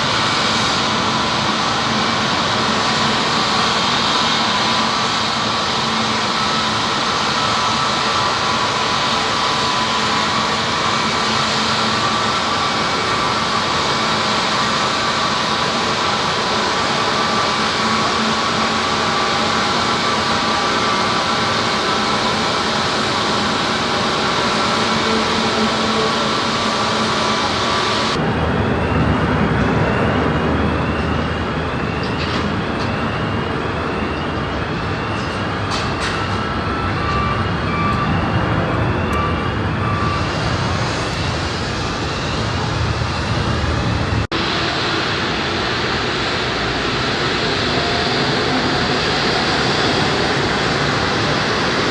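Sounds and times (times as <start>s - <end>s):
deep aircraft rumble: 0.0s - 51.9s
jet engines running: 0.0s - 51.9s.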